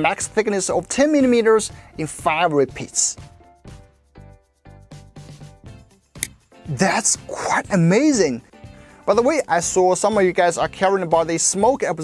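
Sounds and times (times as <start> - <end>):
light instrumental music: 0.0 - 12.0.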